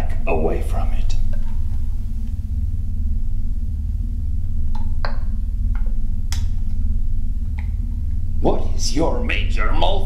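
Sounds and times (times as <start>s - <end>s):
low rumbling drone: 0.0s - 10.0s.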